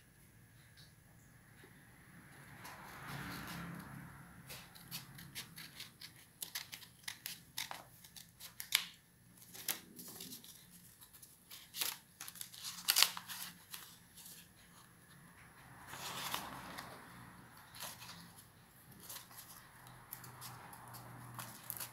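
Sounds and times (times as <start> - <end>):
scissors snipping paper: 2.7 - 14.9, 15.8 - 21.9.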